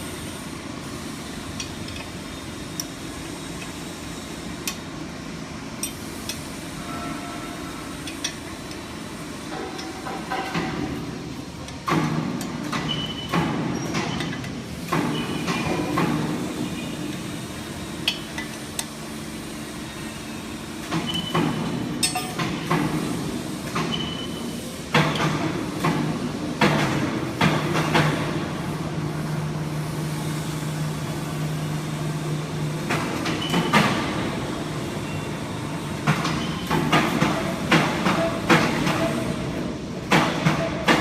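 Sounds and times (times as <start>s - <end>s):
industrial machinery humming: 0.0s - 41.0s.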